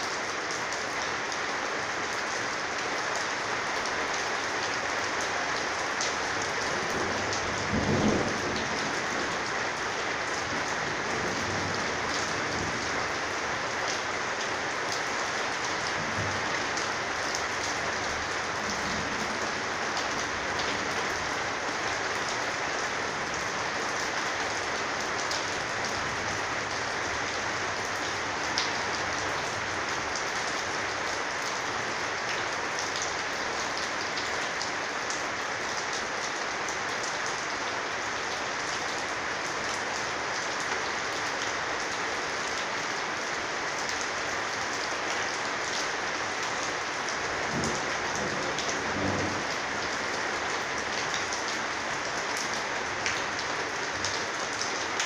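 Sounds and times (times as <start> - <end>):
heavy rain on a corrugated roof: 0.0 - 55.0.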